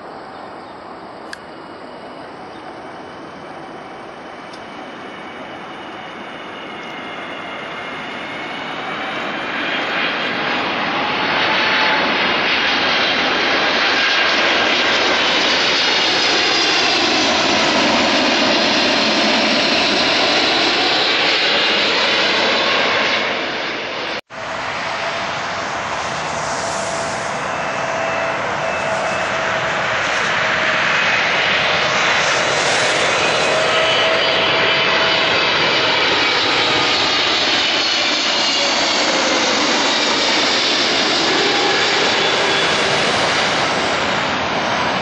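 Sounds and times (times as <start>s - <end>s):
jet airliner roaring overhead: 0.0s - 45.0s
jet engine whine: 0.0s - 45.0s.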